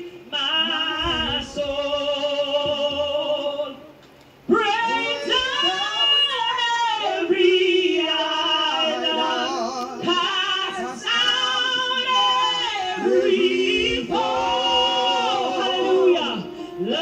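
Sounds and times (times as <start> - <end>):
woman singing a hymn: 0.0 - 17.0.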